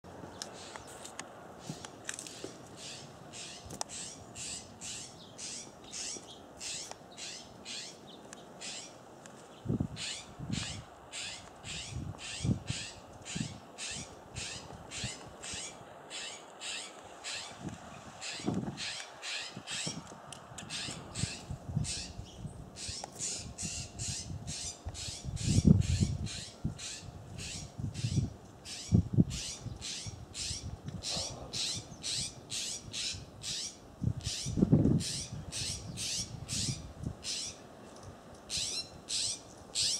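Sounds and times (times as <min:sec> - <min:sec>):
bird harsh scratchy calls: 0:02.3 - 0:09.0, 0:10.0 - 0:17.6, 0:18.2 - 0:20.0, 0:20.6 - 0:22.2, 0:22.8 - 0:37.6, 0:38.5 - 0:39.9.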